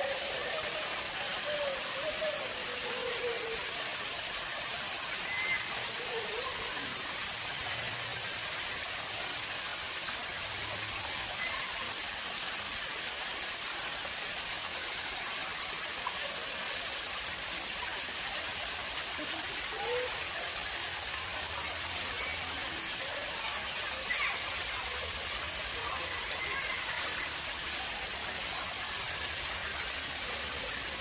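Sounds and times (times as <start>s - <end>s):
water splashing into pond: 0.0s - 31.0s.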